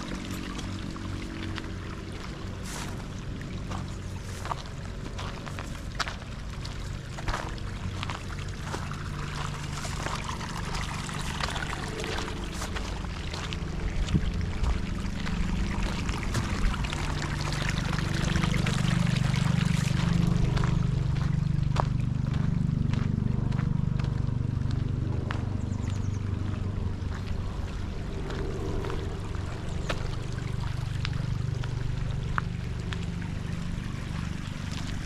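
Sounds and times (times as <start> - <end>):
rushing splashing water: 0.0 - 22.4, 26.4 - 35.0
low engine drone: 0.0 - 35.0.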